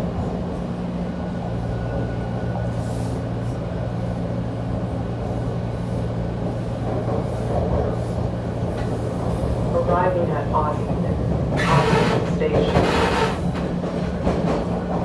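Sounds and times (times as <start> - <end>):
subway car rumbling on track: 0.0 - 15.0.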